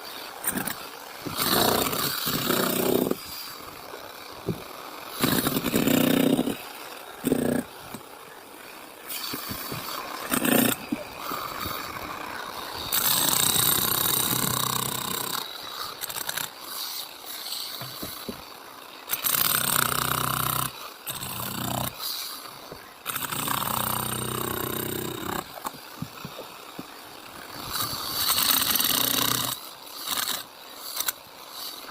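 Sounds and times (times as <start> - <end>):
power saw cutting concrete: 0.0 - 31.9.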